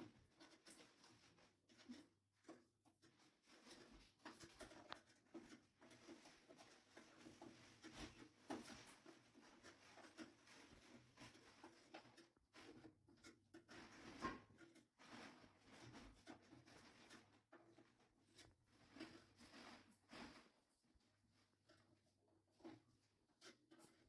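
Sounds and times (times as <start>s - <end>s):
handling clicks taps and scraping: 0.0s - 20.6s, 21.5s - 24.0s.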